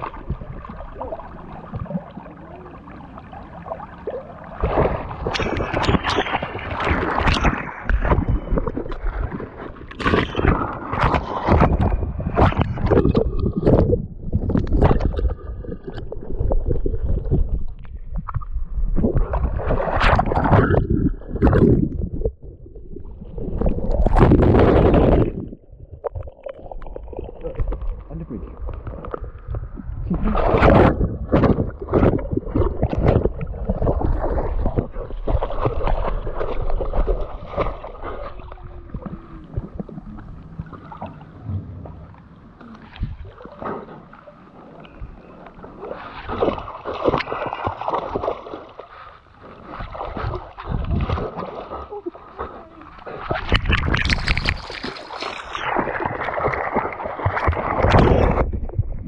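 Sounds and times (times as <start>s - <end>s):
water splashing from wading: 0.0s - 18.4s, 19.0s - 59.0s.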